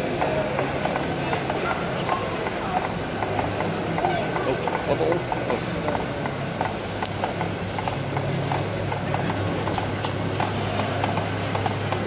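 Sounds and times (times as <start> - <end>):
rhythmic light clicking: 0.0 - 12.0
steady low hum: 0.0 - 12.0.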